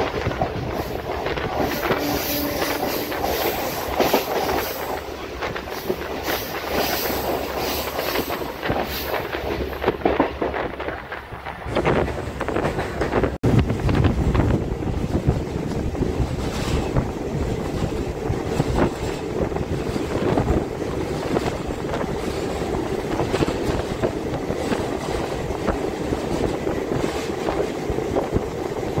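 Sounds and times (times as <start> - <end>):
train running rumble: 0.0 - 29.0
wind rushing over microphone: 0.0 - 29.0.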